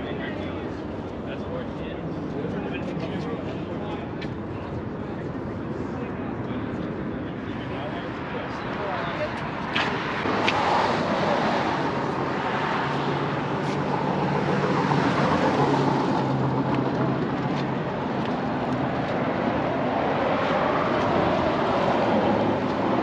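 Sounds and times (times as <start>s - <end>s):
broad noise: 0.0s - 23.0s.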